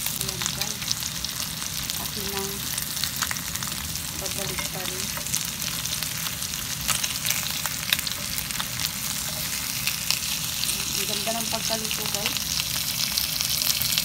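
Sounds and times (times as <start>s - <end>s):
meat sizzling in oil: 0.0s - 14.0s.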